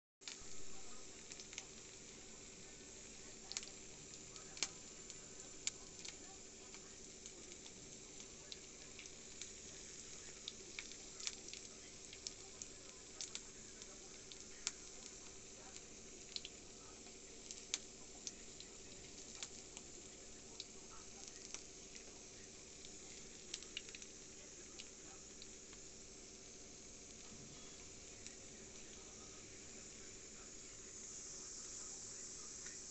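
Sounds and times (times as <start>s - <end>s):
fat popping and crackling: 0.2s - 32.9s
food sizzling in oil: 0.2s - 32.9s.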